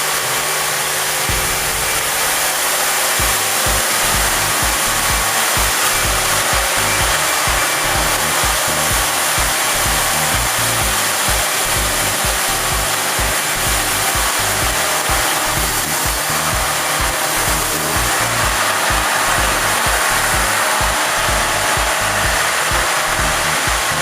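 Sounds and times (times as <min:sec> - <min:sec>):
water sprays hissing: 0:00.0 - 0:24.0
low machinery rumble: 0:03.2 - 0:24.0.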